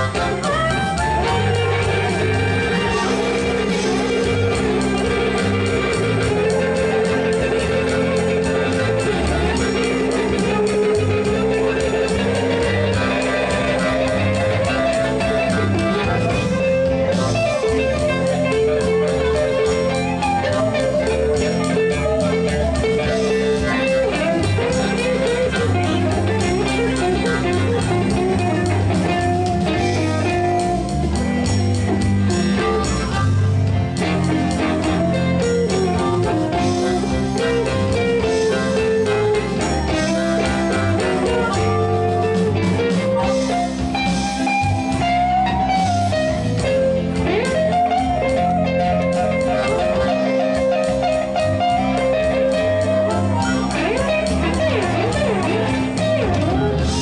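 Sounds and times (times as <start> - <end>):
blues guitar music with beat: 0.0 - 57.0.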